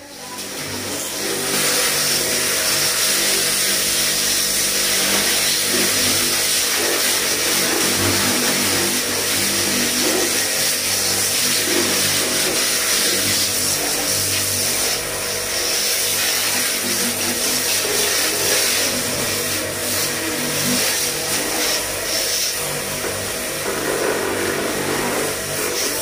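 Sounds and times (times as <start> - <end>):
pump motor humming: 0.0 - 26.0
water jet hissing on car: 0.8 - 22.6.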